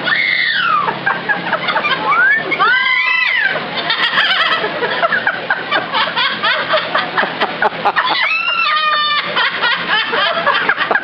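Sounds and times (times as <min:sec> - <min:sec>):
parrots cackling like laughter: 0:00.1 - 0:11.0.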